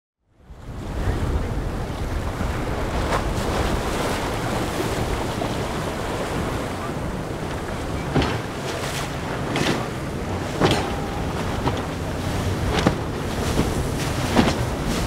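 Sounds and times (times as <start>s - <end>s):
wind buffeting the microphone: 0.3s - 15.0s
breaking waves and spray: 0.5s - 15.0s
sharp splashes: 2.8s - 15.0s.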